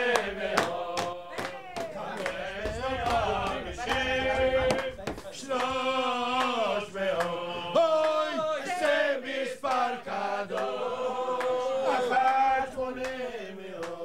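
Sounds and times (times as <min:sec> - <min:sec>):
men singing unaccompanied: 0:00.0 - 0:14.0.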